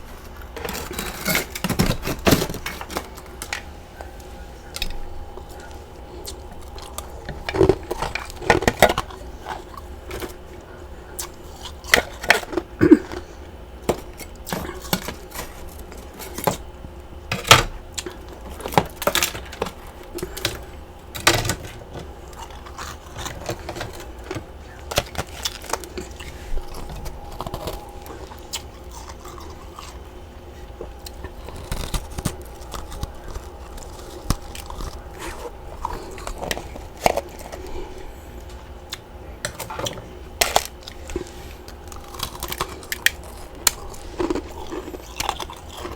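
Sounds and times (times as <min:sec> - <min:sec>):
ice being chewed: 0:00.0 - 0:45.9.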